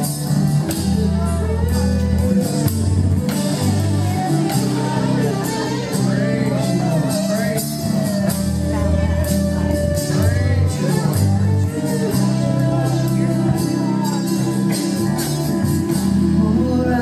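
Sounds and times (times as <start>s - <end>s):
person singing: 0.0s - 17.0s
worship band playing: 0.0s - 17.0s.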